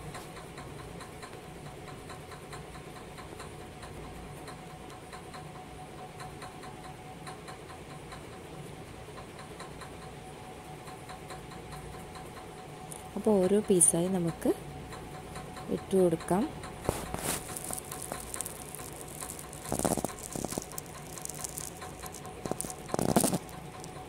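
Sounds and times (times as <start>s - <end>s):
deep-frying sizzle with pops: 0.0s - 24.0s.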